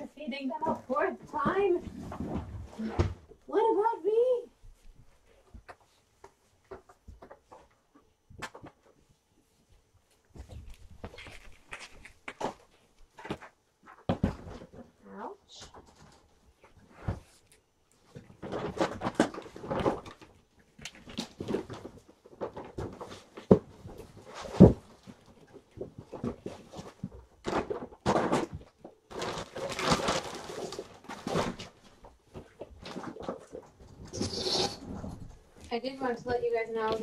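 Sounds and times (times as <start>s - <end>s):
rustling and handling noises: 0.0s - 37.0s.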